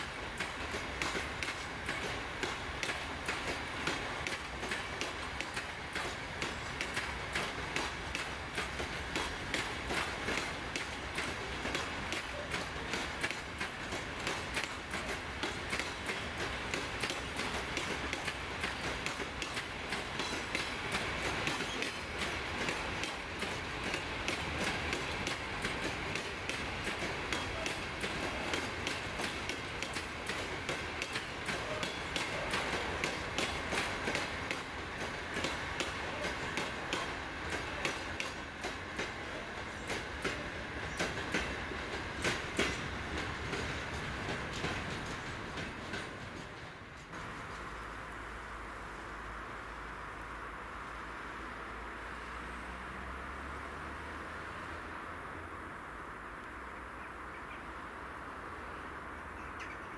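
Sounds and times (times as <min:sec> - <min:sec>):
wheels clicking over rail joints: 0:00.0 - 0:49.2
freight train rumble: 0:00.0 - 0:59.9.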